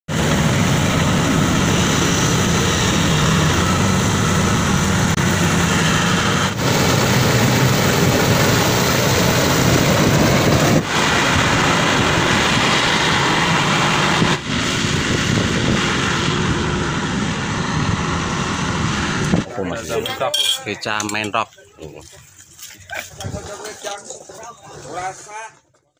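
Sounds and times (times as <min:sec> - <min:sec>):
combine harvester engine and threshing: 0:00.1 - 0:25.4.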